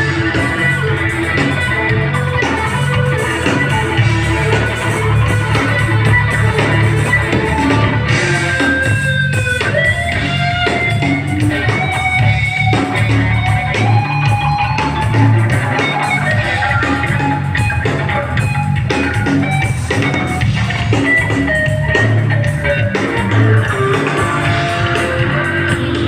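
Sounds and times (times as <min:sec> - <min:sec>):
bass: 0:00.0 - 0:26.0
drums: 0:00.0 - 0:26.0
electric guitar lead: 0:00.0 - 0:26.0.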